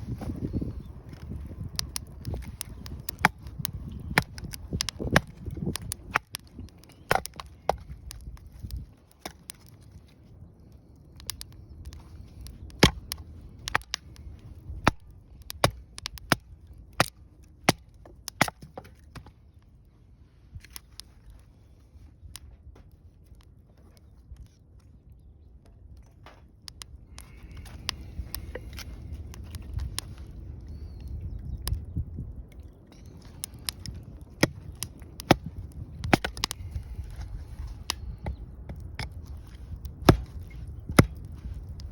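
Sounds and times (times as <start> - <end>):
wood fire crackling and popping: 0.0 - 19.8, 20.4 - 41.9.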